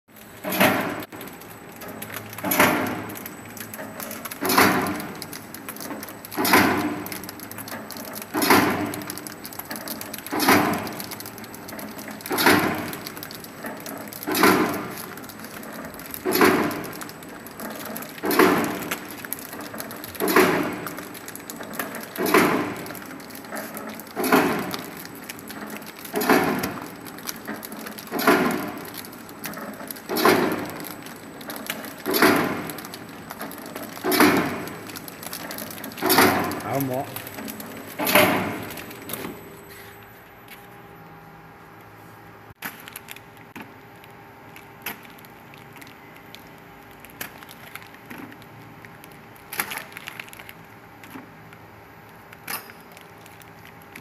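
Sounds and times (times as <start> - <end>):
packing machine running: 0.1 - 54.0.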